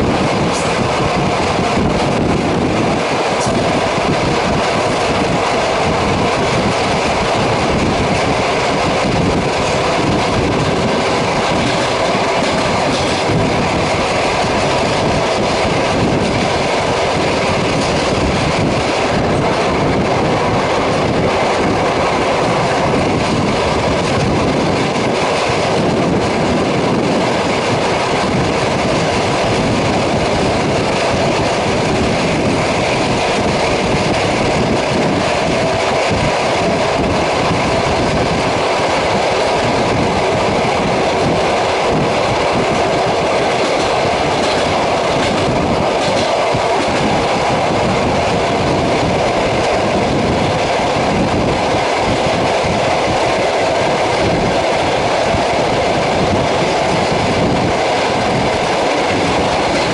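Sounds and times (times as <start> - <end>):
track clatter: 0.0 - 59.9
train wheels rumbling on rails: 0.0 - 59.9.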